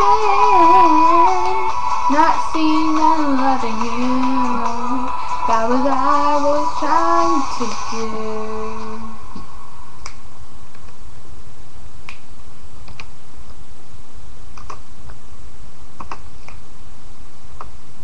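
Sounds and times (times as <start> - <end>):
microphone hum and hiss: 0.0 - 18.0.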